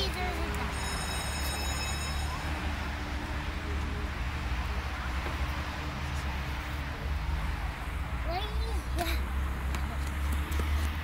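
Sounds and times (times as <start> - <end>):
faint distant voices: 0.0 - 10.9.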